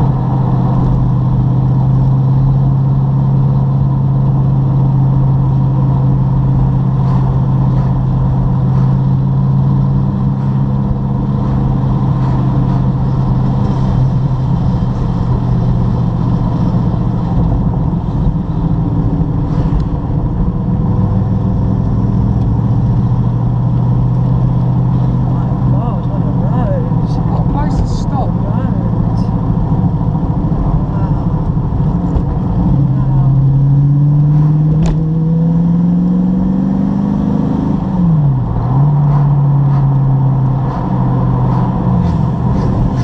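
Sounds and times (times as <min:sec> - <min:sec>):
car engine cruising: 0:00.0 - 0:43.0
road noise: 0:00.0 - 0:43.0.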